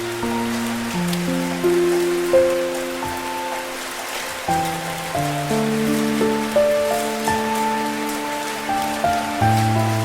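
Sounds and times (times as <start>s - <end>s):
slow piano music: 0.0s - 10.0s
steady rain: 0.0s - 10.0s.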